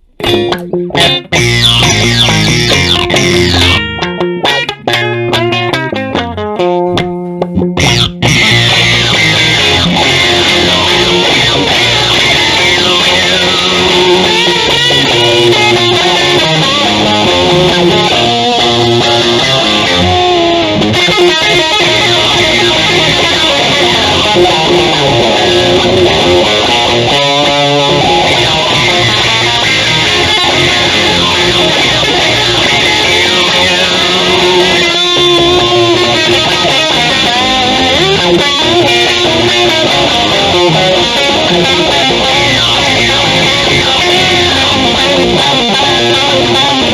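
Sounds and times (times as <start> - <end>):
instrumental dub music: 0.0 - 46.9.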